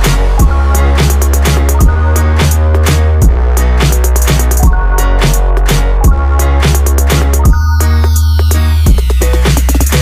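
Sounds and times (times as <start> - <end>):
electronic music: 0.0 - 10.0
heavy bass line: 0.0 - 10.0.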